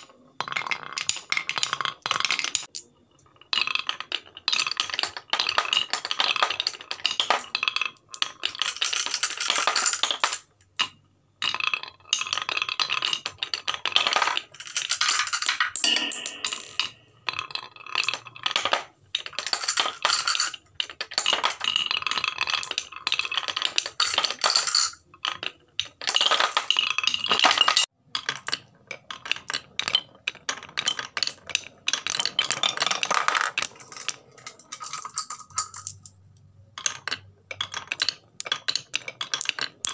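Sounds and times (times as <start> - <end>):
marble rolling in wooden bowl: 0.0 - 15.7, 16.6 - 39.9
marbles clacking on wooden track: 0.0 - 39.9.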